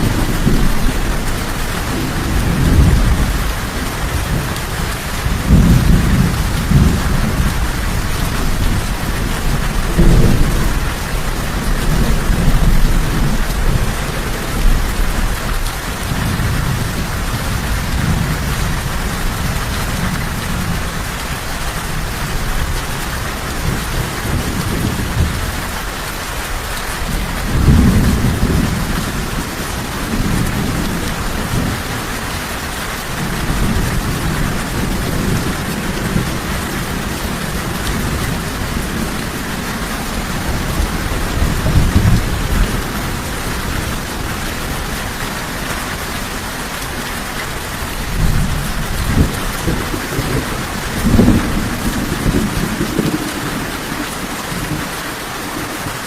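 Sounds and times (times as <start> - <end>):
rolling thunder: 0.0 - 25.8, 26.9 - 46.4, 47.2 - 55.0
heavy rain: 0.0 - 56.0.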